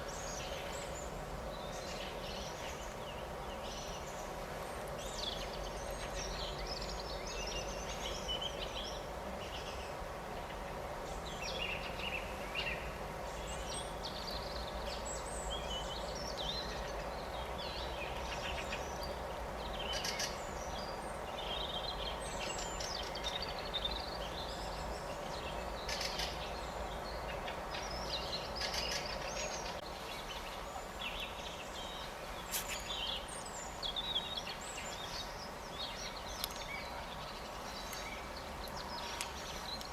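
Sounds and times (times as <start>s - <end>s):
low background noise: 0.0s - 39.9s
small birds chirping: 0.0s - 39.9s.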